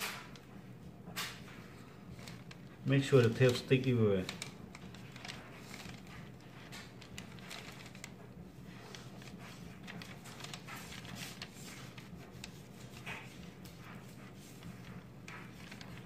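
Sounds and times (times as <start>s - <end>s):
canvas and plastic rustling: 0.1s - 16.0s.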